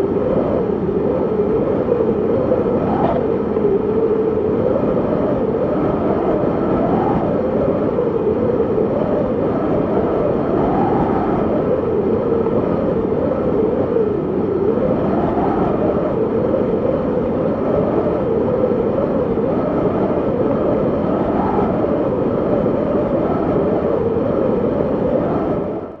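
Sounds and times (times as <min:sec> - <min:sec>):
strong wind blowing: 0:00.0 - 0:26.0.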